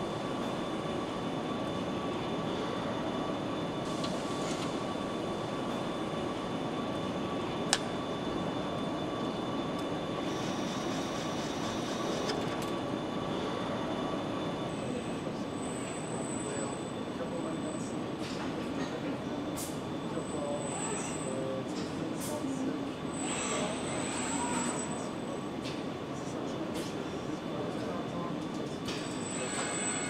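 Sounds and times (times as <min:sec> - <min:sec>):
factory machinery noise: 0:00.0 - 0:30.0.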